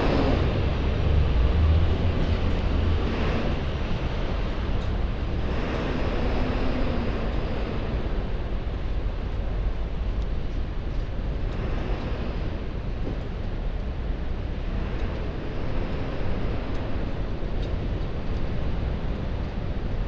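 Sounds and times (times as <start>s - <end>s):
motor traffic noise: 0.0s - 20.0s
wind buffeting the microphone: 0.0s - 20.0s.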